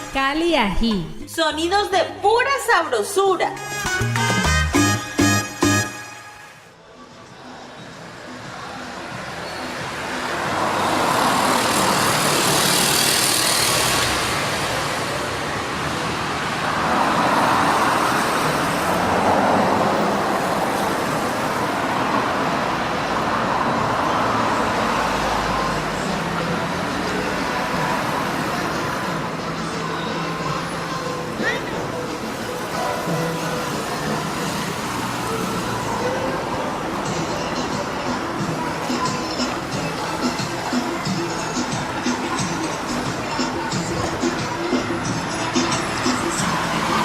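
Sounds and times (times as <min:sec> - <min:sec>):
cars passing: 0:00.0 - 0:47.0.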